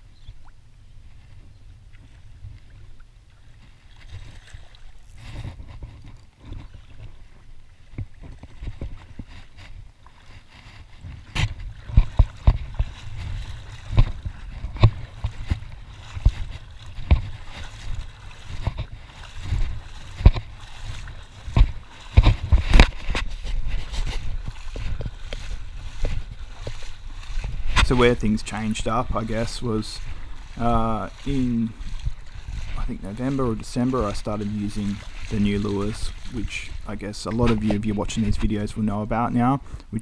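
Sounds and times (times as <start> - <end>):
choppy water lapping: 0.0 - 40.0
wind rumbling on microphone: 0.0 - 40.0
knocks and splashes in water: 1.3 - 39.5.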